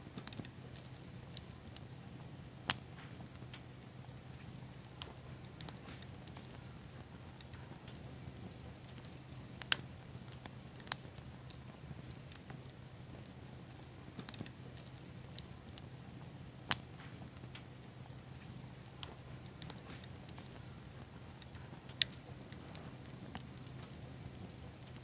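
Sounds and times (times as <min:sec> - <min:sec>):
bonfire crackling: 0:00.0 - 0:25.0
sharp fire pops: 0:00.1 - 0:25.0.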